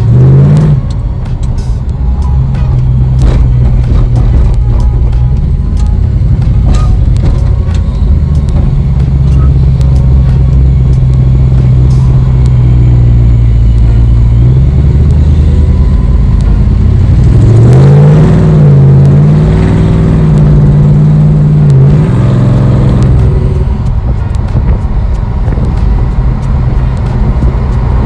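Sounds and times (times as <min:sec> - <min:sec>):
car engine drone from inside: 0:00.0 - 0:28.0.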